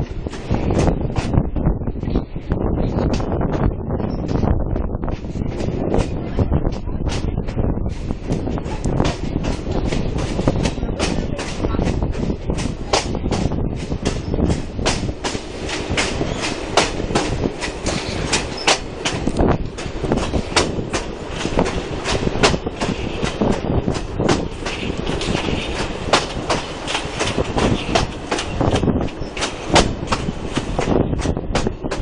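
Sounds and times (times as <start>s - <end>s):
train coaches rumbling: 0.0s - 32.0s
train wheels clicking on rail joints: 0.0s - 32.0s.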